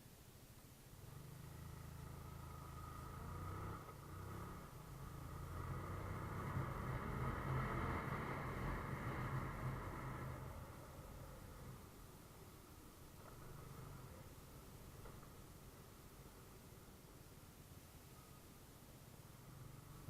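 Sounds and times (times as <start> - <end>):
vehicle engine running: 1.0 - 17.3.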